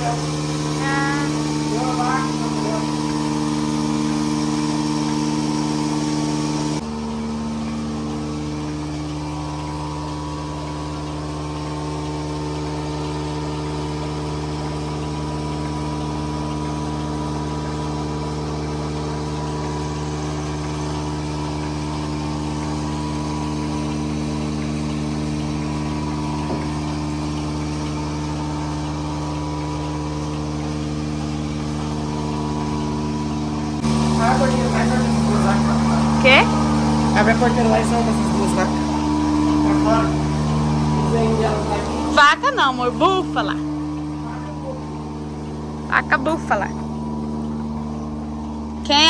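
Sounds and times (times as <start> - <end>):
motor humming steadily: 0.0 - 49.0.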